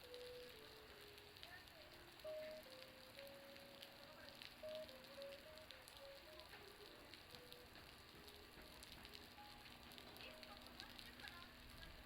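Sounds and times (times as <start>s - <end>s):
water dripping from roof: 0.0s - 12.0s.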